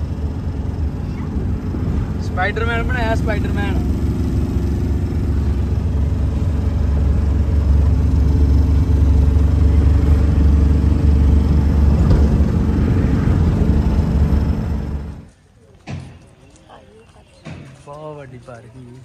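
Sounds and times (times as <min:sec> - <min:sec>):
van engine and road noise: 0:00.0 - 0:19.0.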